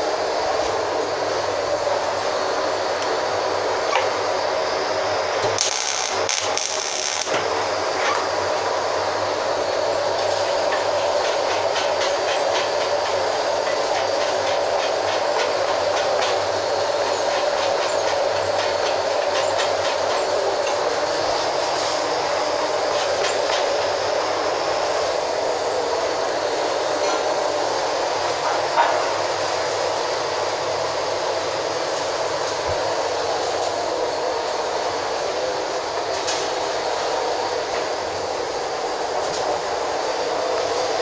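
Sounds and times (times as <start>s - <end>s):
train running: 0.0s - 41.0s.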